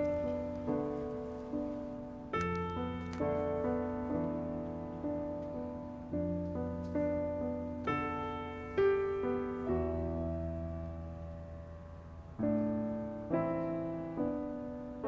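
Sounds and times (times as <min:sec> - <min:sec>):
slow gentle piano chords: 0:00.0 - 0:15.0.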